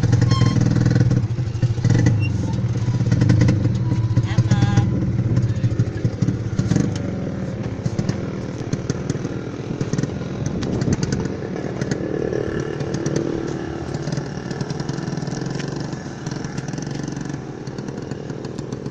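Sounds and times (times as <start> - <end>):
small motorcycle engine running: 0.0 - 18.9.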